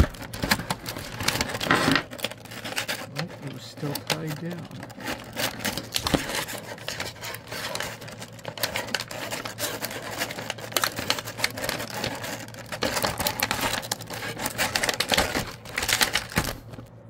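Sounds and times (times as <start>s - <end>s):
plastic packaging rattling and crinkling: 0.0s - 17.0s.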